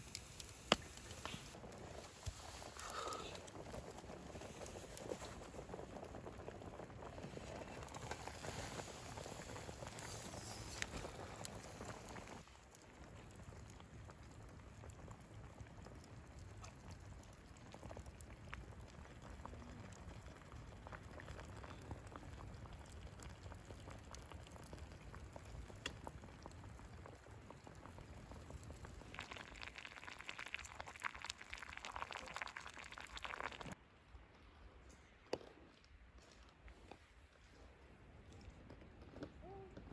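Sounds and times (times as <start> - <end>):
pot bubbling over campfire: 0.0 - 33.8
sizzling crackle: 0.0 - 33.8.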